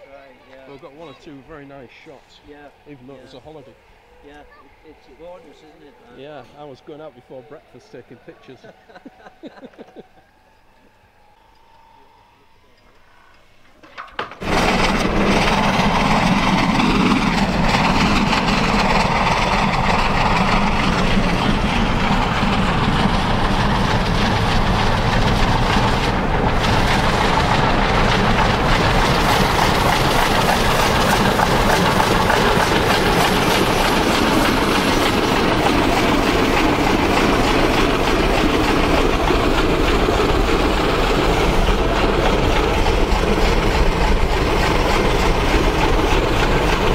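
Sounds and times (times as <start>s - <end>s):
steam train running: 0.0s - 46.9s.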